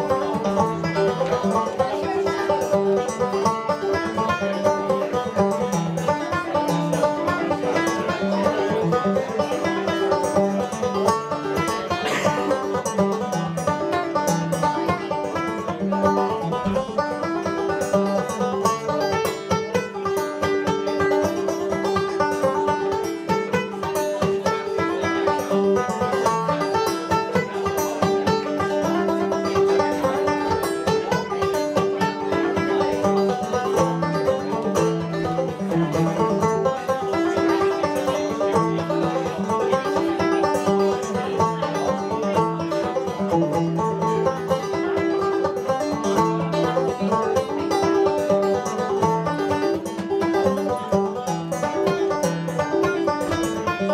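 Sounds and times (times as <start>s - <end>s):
solo banjo tune: 0.0s - 53.9s.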